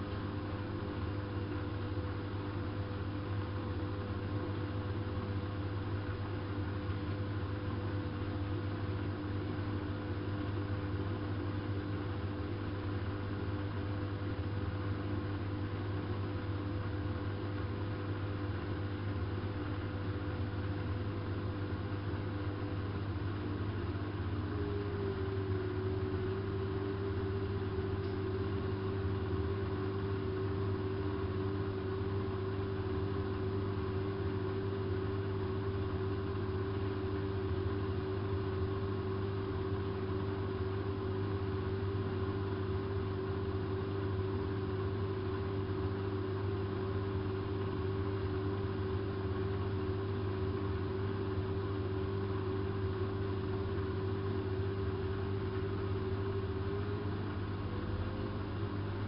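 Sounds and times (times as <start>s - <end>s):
washing machine motor hum and whine: 0.0s - 59.0s.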